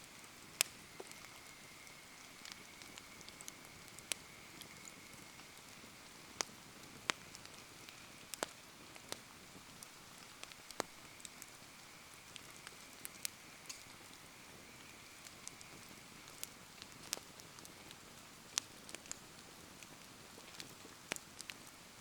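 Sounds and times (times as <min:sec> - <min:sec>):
burning wood crackling: 0:00.0 - 0:22.0
rain patter: 0:00.0 - 0:22.0.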